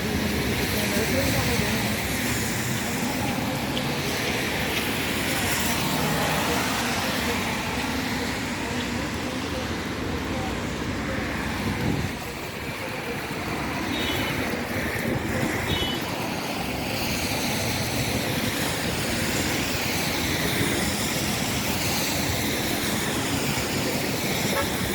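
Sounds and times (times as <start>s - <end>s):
tyres swishing over wet road: 0.0s - 24.9s
vehicles passing: 0.0s - 24.9s.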